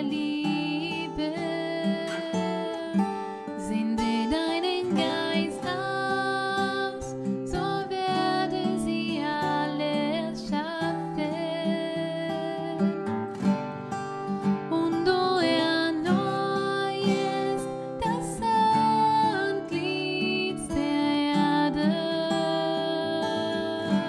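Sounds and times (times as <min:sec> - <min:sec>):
woman singing into a microphone: 0:00.0 - 0:13.3, 0:14.5 - 0:24.0
strummed acoustic guitar: 0:00.0 - 0:24.0.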